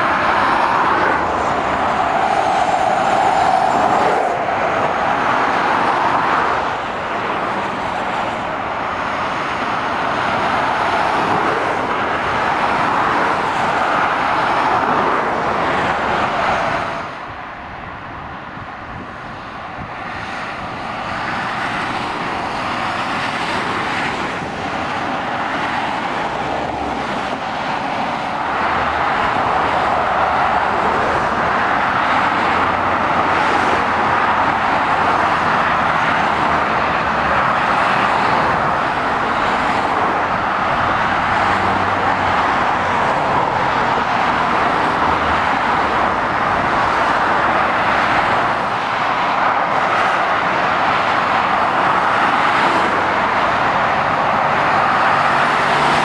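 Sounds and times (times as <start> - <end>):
motorway traffic passing: 0.0 - 56.0.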